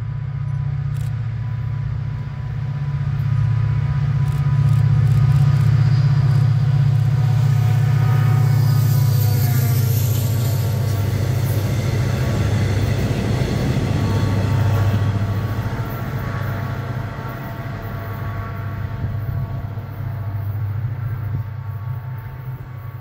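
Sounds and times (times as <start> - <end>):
diesel locomotive engine droning: 0.0 - 23.0.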